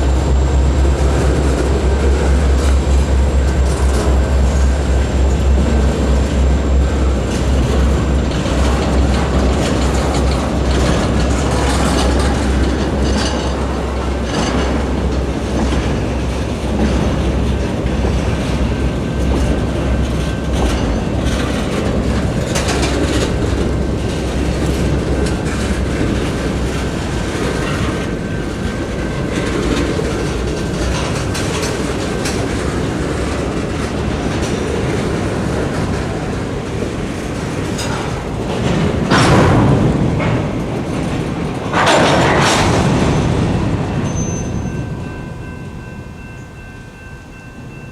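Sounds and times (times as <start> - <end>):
freight train wheels clanking: 0.0 - 47.9.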